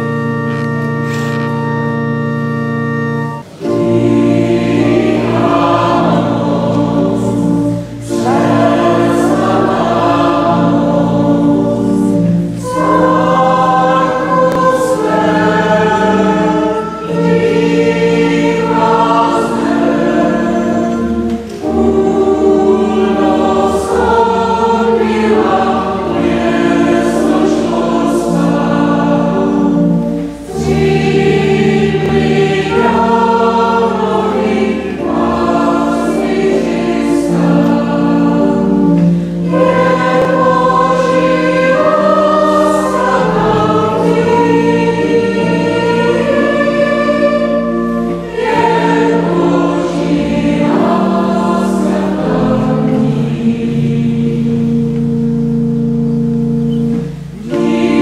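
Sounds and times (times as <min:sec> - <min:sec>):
mixed choir singing: 0:00.0 - 0:01.9, 0:03.2 - 0:58.0
pipe organ: 0:00.0 - 0:58.0.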